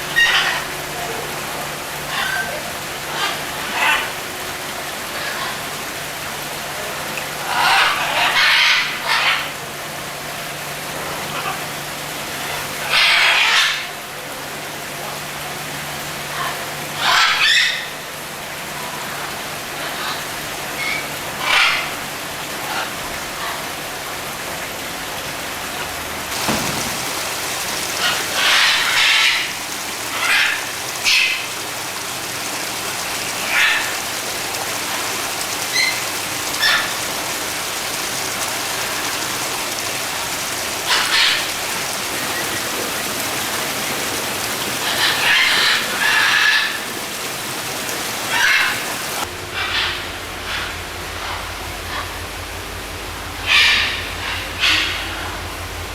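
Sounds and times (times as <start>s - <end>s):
rain falling: 0.0s - 55.9s.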